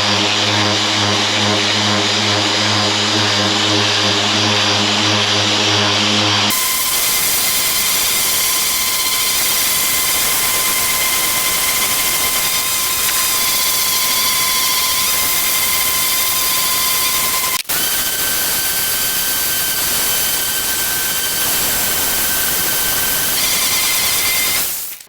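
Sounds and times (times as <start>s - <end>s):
power tool whining: 0.0s - 25.0s.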